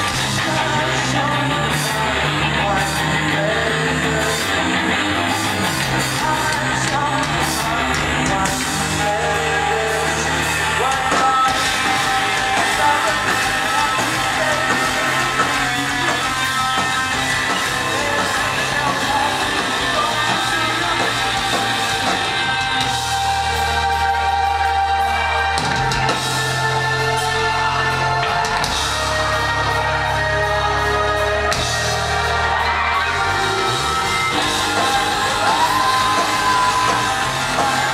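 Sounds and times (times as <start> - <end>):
live rock band playing: 0.0 - 37.9.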